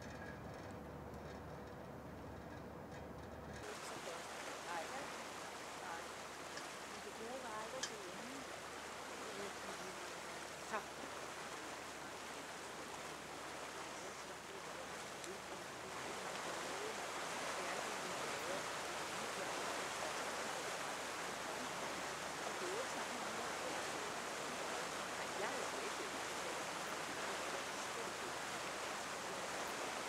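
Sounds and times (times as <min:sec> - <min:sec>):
rushing water around boat: 0:03.5 - 0:30.0.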